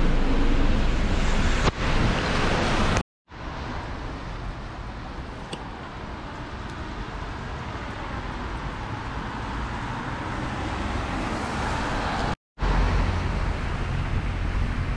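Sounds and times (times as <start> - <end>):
deep traffic rumble: 0.0 - 14.9.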